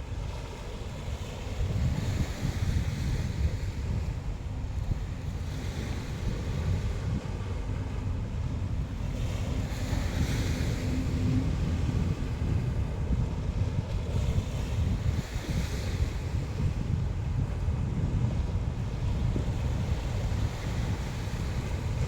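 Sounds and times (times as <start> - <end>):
sea waves breaking on shore: 0.0 - 22.0
wind buffeting microphone: 0.0 - 22.0.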